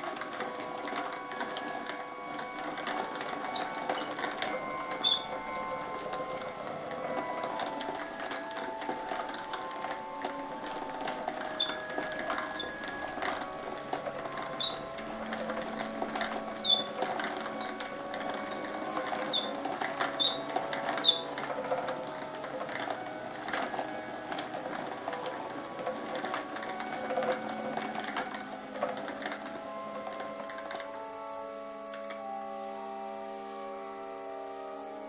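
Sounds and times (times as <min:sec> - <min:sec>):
yarn winder gears clicking: 0:00.0 - 0:32.3.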